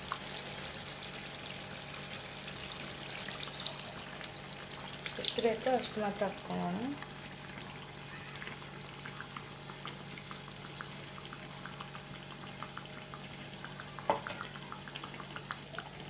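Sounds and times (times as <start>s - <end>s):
curry simmering with pops and crackles: 0.0s - 16.0s.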